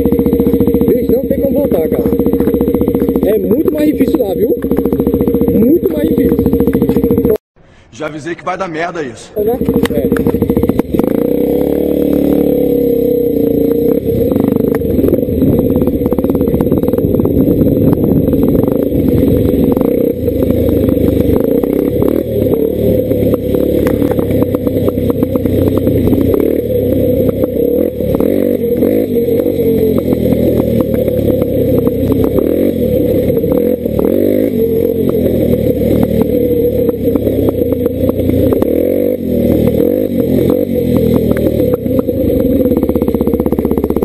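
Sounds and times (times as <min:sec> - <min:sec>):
dirt bike engine revving: 0:00.0 - 0:07.4, 0:09.4 - 0:44.0.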